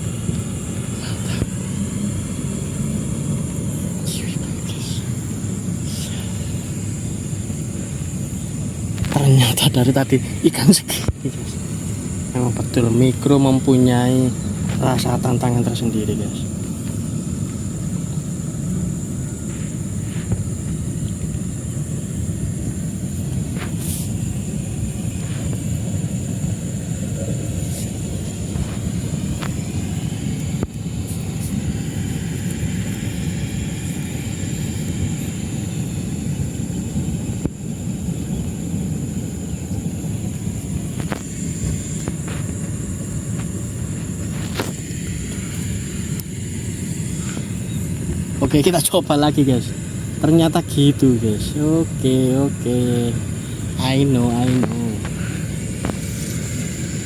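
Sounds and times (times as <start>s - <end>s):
high-pitched whine: 0.0s - 57.0s
low outdoor rumble: 0.0s - 57.0s.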